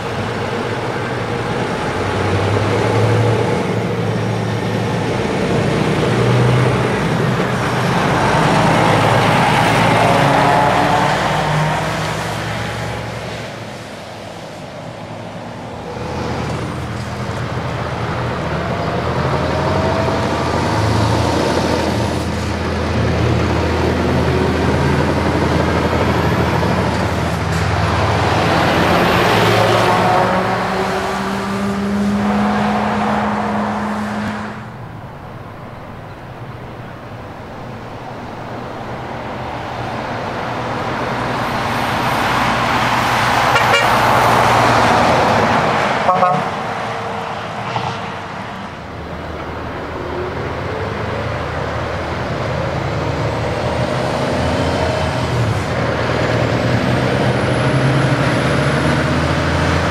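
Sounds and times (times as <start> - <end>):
truck approaching: 0.0 - 59.9
truck diesel engine under load: 0.0 - 59.9.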